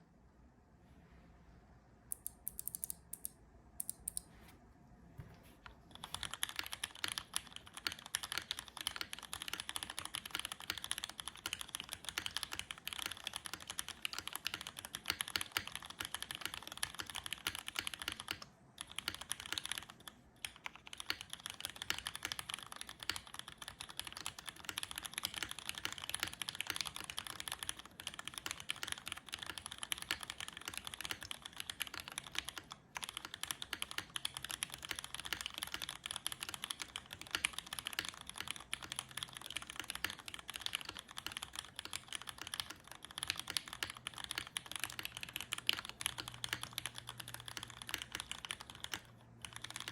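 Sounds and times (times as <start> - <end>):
typing on mechanical keyboard: 2.1 - 4.2, 5.9 - 49.9.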